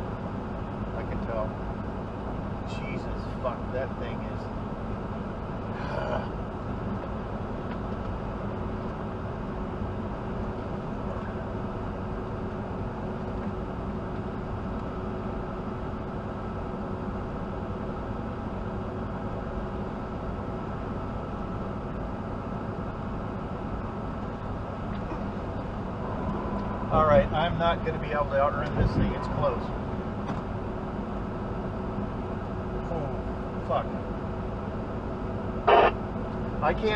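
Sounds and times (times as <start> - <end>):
truck cab road and engine noise: 0.0 - 36.9.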